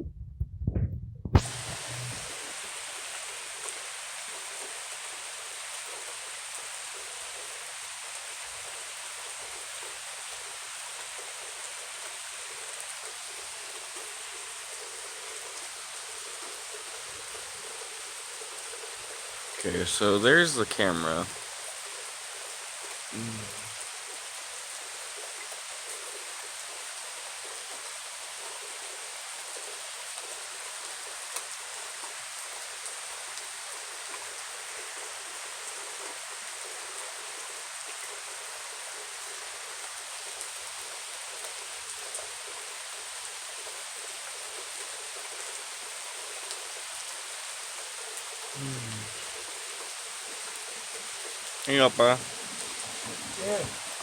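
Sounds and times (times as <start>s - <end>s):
steady rain falling: 1.3s - 54.0s.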